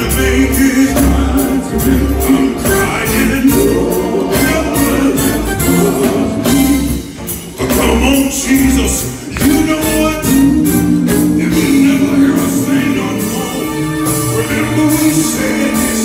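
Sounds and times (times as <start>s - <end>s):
drum beat: 0.0s - 15.3s
bass line: 0.0s - 16.0s
gospel group singing: 0.0s - 16.0s.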